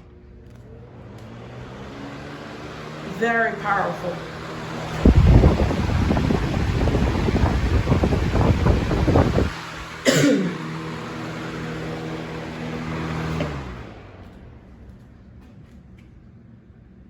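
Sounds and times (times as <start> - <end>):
fan airflow buffeting microphone: 0.0 - 17.0
fan motor hum: 0.0 - 17.0.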